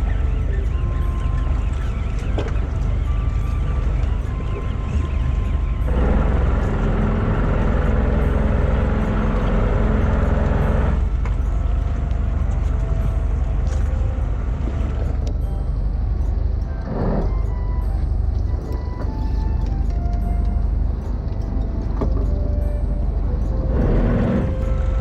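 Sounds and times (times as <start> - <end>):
boat engine rumbling: 0.0 - 25.0.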